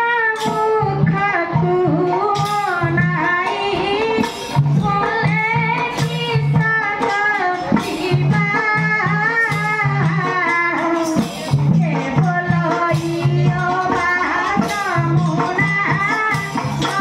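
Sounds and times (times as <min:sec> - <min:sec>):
low drum beat: 0:00.8 - 0:17.0.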